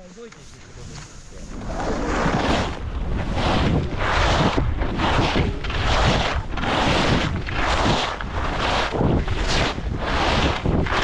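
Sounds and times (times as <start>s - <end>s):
skis scraping through snow: 0.0s - 11.0s
wind on microphone: 0.8s - 11.0s.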